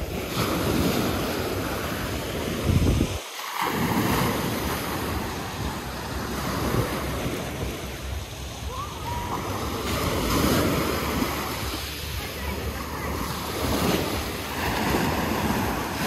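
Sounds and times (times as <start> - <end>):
waves washing over pebbles: 0.0 - 16.0.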